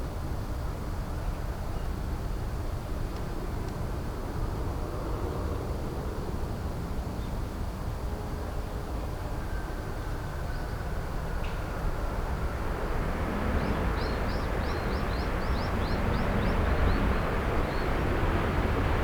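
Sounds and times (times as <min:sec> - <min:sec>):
jet airliner engine rumble: 0:00.0 - 0:19.0.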